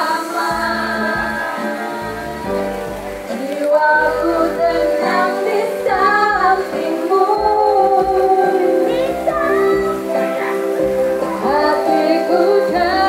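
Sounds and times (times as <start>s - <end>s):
woman singing with music: 0.0s - 13.0s.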